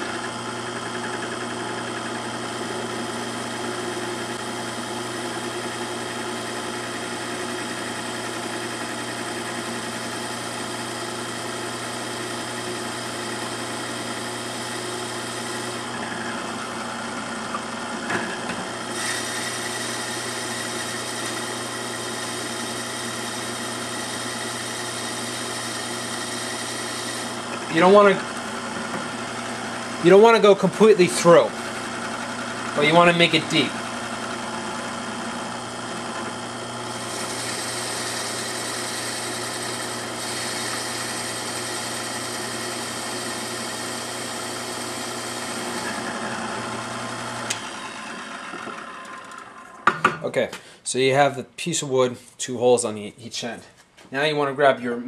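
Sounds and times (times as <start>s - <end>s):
drilling into wood: 0.0s - 30.0s, 33.8s - 50.0s
drill press motor humming: 0.0s - 50.2s.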